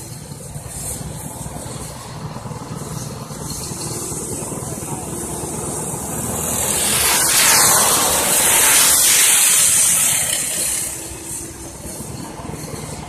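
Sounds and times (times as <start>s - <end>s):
go-kart engines passing: 0.0s - 13.0s.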